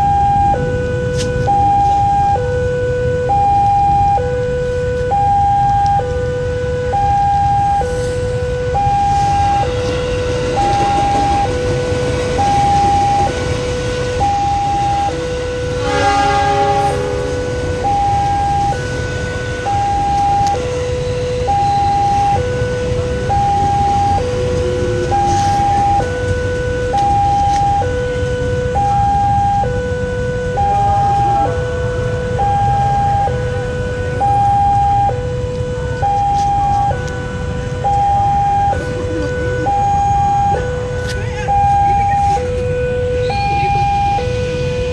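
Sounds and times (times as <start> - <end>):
low traffic rumble: 0.0 - 44.9
two-tone crossing alarm: 0.0 - 44.9.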